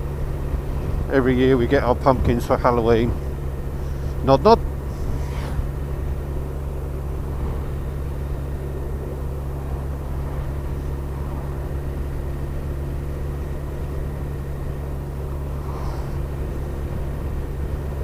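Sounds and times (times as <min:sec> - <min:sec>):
motorcycle engine cruising: 0:00.0 - 0:18.0
road noise: 0:00.0 - 0:18.0
wind noise: 0:00.3 - 0:18.0.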